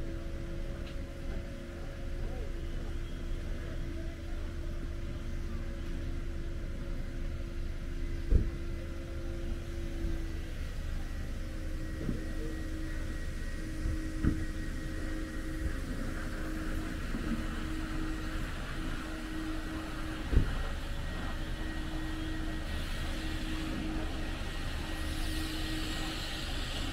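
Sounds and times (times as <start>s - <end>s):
car wash machine hum: 0.0s - 26.9s.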